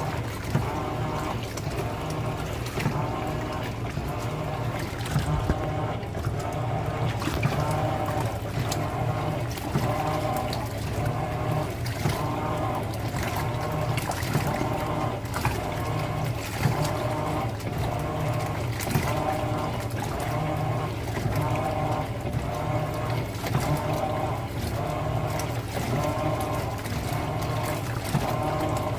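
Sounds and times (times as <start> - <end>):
washing machine motor humming: 0.0 - 28.9
water and towels sloshing in drum: 0.0 - 28.9.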